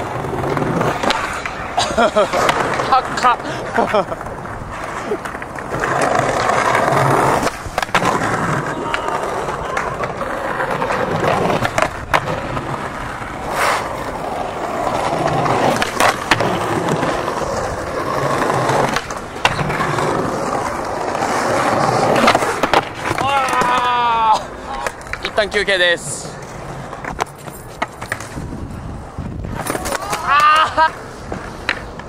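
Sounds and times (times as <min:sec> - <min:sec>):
skateboard clacks: 0:00.0 - 0:32.0
skateboard wheels rolling on stone: 0:00.0 - 0:32.0.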